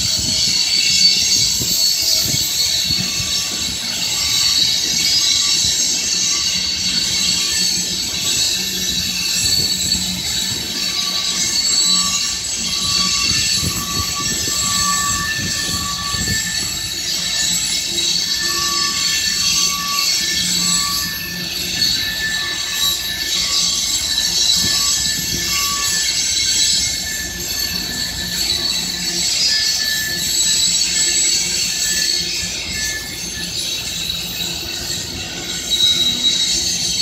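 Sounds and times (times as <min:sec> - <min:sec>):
train rumble: 0:00.0 - 0:37.0
train wheels squealing on rail: 0:00.0 - 0:37.0.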